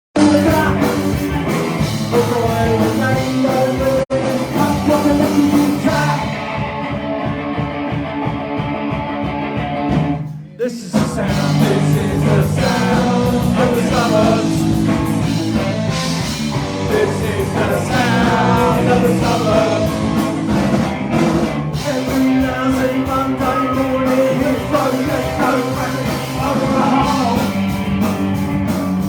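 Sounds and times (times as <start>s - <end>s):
punk rock band playing: 0.2s - 29.0s.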